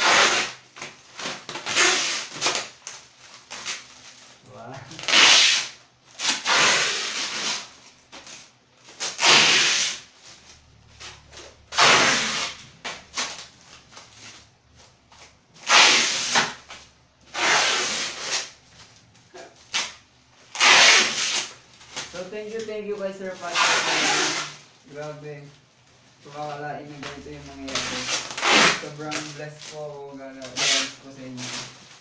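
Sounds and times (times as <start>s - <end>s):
plastic wrap and tape ripping: 0.0s - 25.5s, 26.2s - 32.0s.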